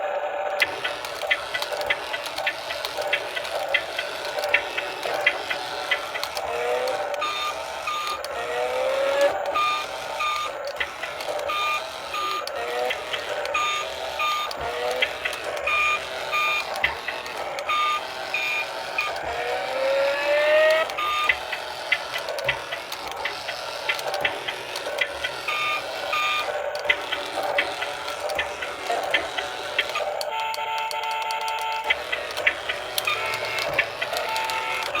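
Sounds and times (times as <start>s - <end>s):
toy car electric motors whining: 0.0s - 35.0s
clicks: 0.4s - 35.0s.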